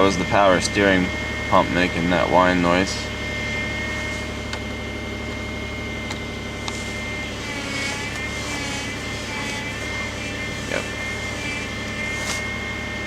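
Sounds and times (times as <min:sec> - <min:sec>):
car engine idling: 0:00.0 - 0:13.0
thin high whine: 0:00.0 - 0:13.0.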